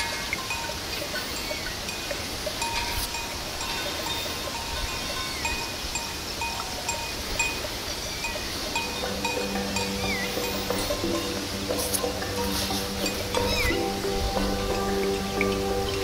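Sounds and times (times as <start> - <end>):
cattle bells clinking: 0.0 - 16.0.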